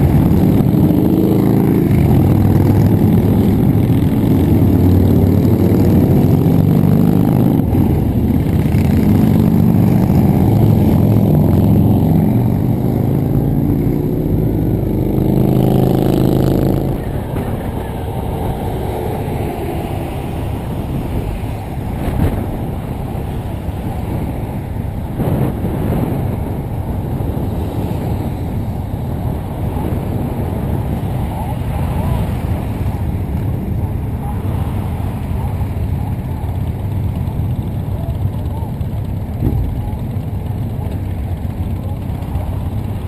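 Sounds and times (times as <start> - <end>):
motorcycle engine running: 0.0 - 43.0
wind and road noise: 0.0 - 43.0.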